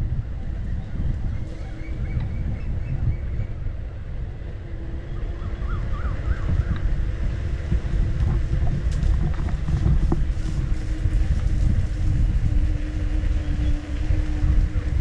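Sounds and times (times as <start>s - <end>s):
wind rumbling on microphone: 0.0s - 15.0s
electric motor whine: 0.4s - 15.0s.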